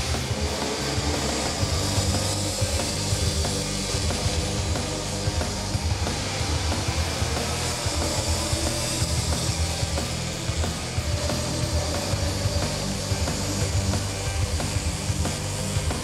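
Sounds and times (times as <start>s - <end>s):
music with fast beat: 0.0s - 16.0s.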